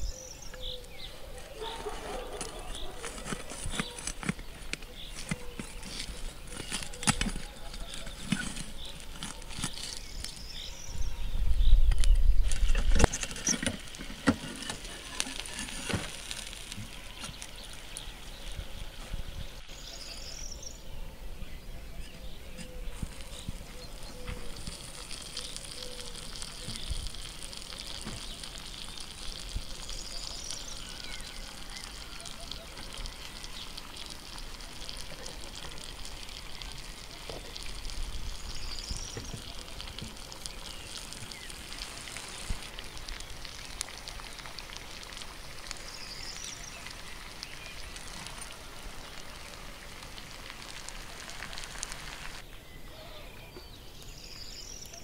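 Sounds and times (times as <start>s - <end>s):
food sizzling and crackling: 0.0s - 20.8s, 22.2s - 52.6s
birds chirping: 0.0s - 55.0s.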